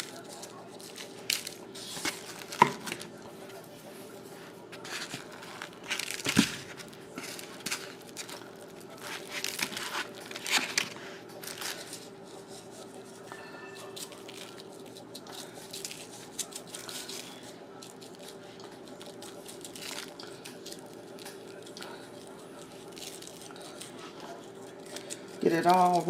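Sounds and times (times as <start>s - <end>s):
packaging crinkling and tearing: 0.0s - 3.2s, 4.8s - 12.8s, 13.8s - 26.0s.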